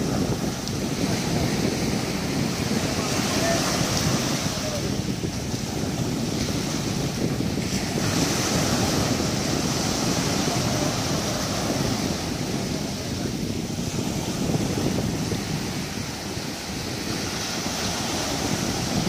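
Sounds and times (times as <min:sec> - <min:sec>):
small surf washing in shallows: 0:00.0 - 0:19.0
wind buffeting microphone: 0:00.0 - 0:19.0.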